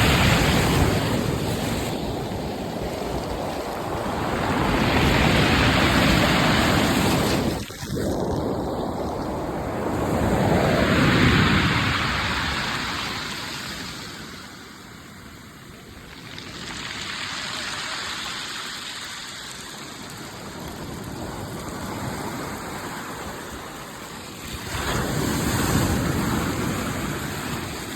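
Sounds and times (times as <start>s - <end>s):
sea waves breaking: 0.0s - 27.9s.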